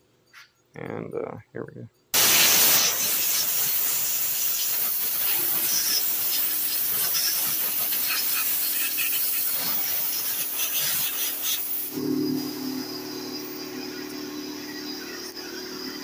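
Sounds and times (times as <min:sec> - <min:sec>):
compressed air hissing: 0:02.2 - 0:16.0.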